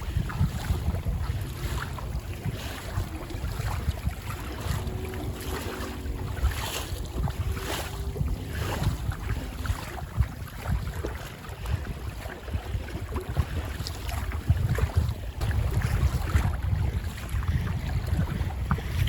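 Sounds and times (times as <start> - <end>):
water splashes: 0.0 - 19.0
wind buffeting microphone: 0.0 - 19.0.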